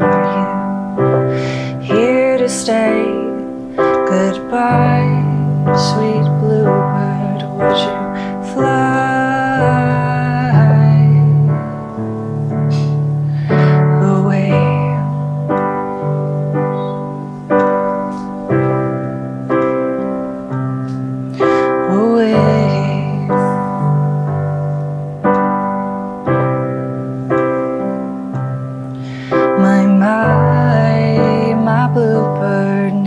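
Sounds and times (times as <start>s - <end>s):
piano chords: 0.0s - 33.0s.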